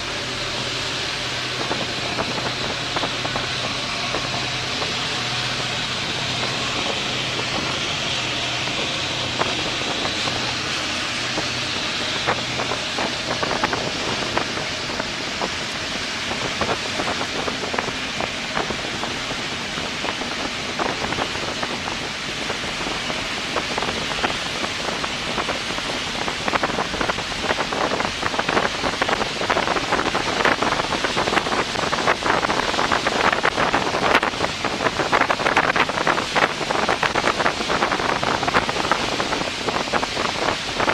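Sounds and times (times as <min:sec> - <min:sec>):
choppy water splashing: 0:00.0 - 0:40.9
ferry engine drone: 0:00.0 - 0:40.9
rushing hiss of water and wind: 0:00.0 - 0:40.9.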